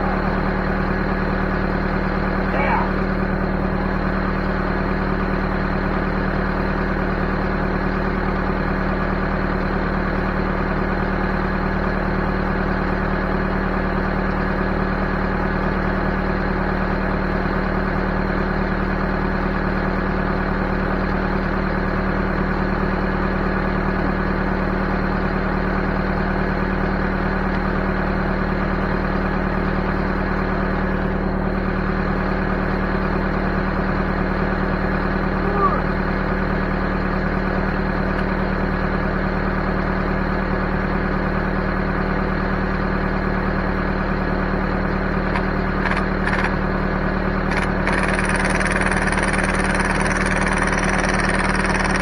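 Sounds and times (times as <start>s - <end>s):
backhoe engine running: 0.0s - 52.0s.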